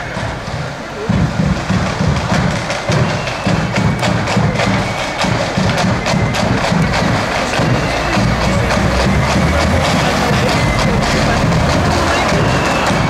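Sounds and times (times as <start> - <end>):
side drums playing marching beat: 0.0 - 13.0.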